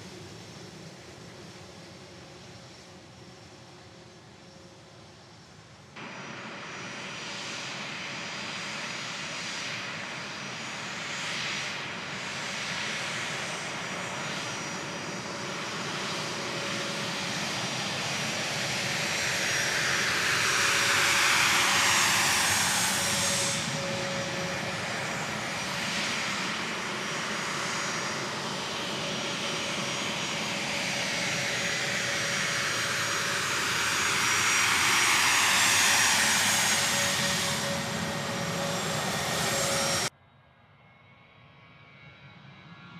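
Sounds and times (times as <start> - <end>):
jet engines whining: 0.0 - 40.1.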